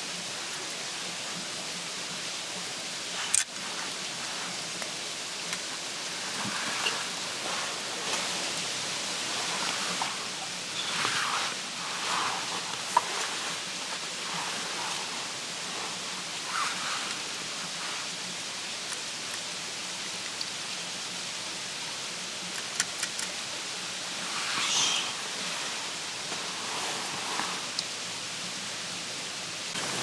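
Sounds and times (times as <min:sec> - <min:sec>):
steady rushing hiss: 0:00.0 - 0:30.0.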